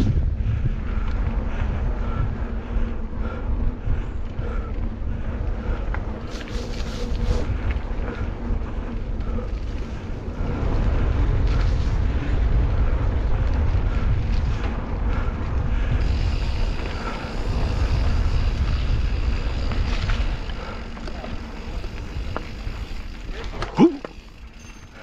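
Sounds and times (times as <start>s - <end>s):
bike clicks and rattles: 0.0s - 25.0s
bike tyre rumble on dirt: 0.0s - 25.0s
wind noise on microphone: 0.0s - 25.0s.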